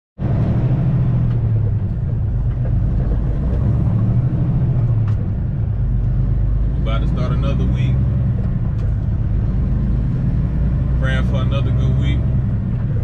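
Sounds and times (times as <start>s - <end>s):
truck engine and tyres droning: 0.2s - 13.0s.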